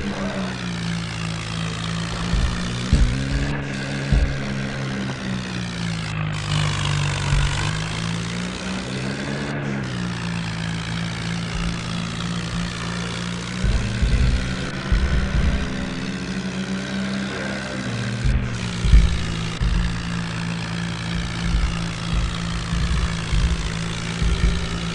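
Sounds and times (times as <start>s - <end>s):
heavy low thumps: 0.0s - 8.9s, 10.4s - 24.9s
tractor engine droning: 0.0s - 24.9s.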